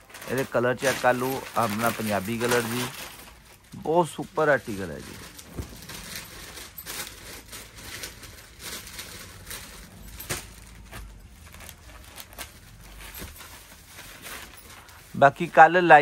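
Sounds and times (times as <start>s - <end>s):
fabric rustling and crinkling: 0.0s - 16.0s.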